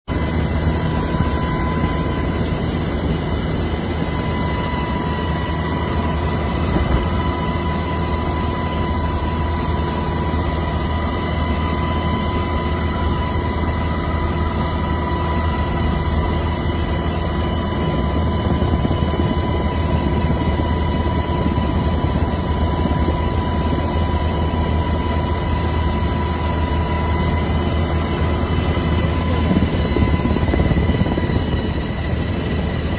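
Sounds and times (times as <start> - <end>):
high whine: 0.1 - 32.9.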